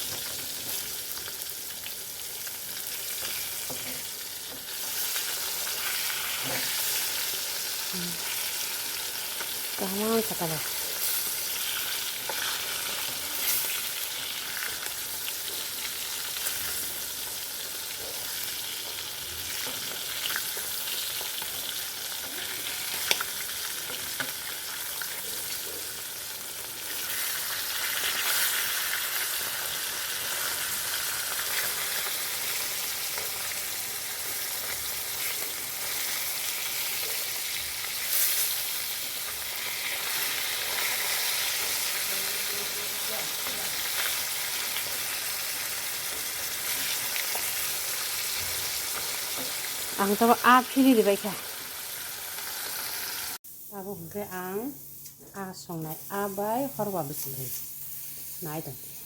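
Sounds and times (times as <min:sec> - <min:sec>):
fish frying in hot oil: 0:00.0 - 0:53.4.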